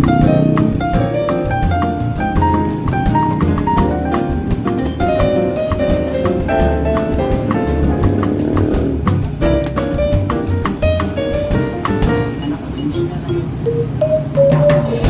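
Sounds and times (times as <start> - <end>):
jazz background music: 0.0 - 15.0.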